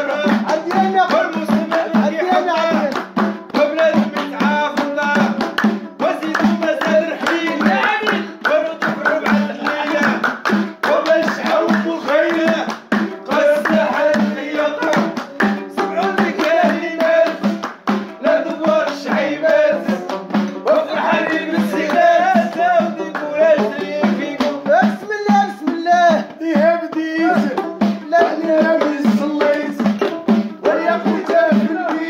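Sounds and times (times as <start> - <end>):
hand percussion beat: 0.0 - 32.0
lute: 0.0 - 32.0
man singing: 0.0 - 32.0.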